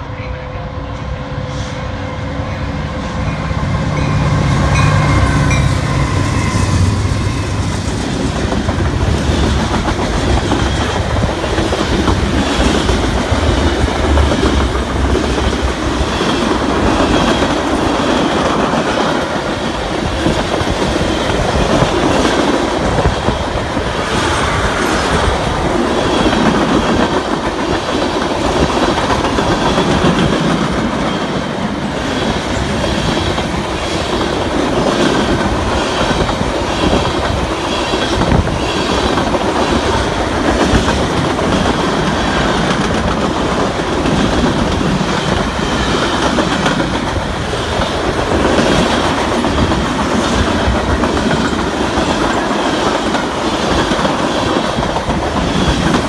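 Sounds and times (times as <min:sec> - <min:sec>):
train wheels clickety-clack: 0:02.5 - 0:56.0.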